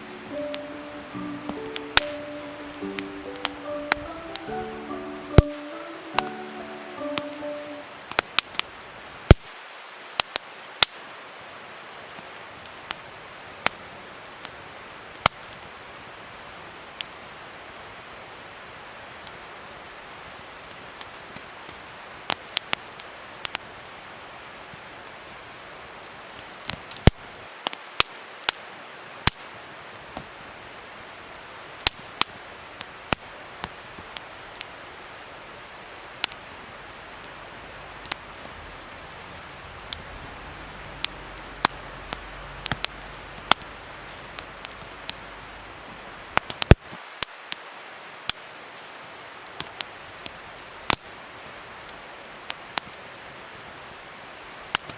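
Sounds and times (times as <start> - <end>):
soft hiss of burning: 0.0 - 54.9
wood fire crackling and popping: 0.0 - 54.9.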